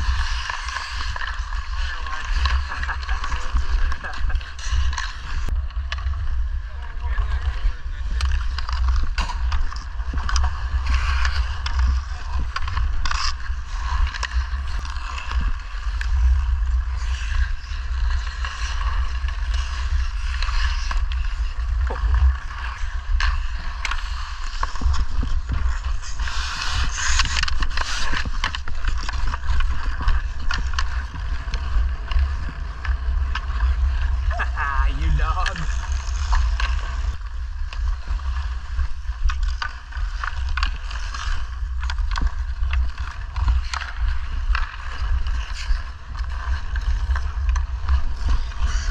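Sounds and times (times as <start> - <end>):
clicks of sticks and puck: 0.0 - 6.4, 7.4 - 48.9
skate blades scraping ice: 0.0 - 48.9
wind rumble on microphone: 0.0 - 48.9.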